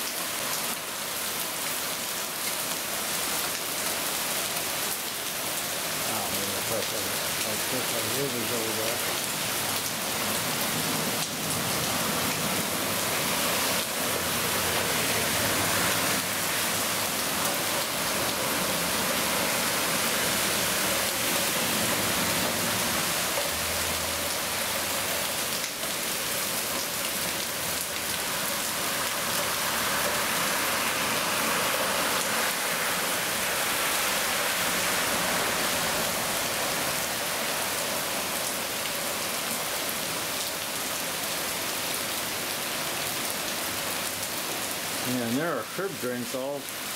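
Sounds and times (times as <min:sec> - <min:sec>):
heavy rain on pavement: 0:00.0 - 0:46.9.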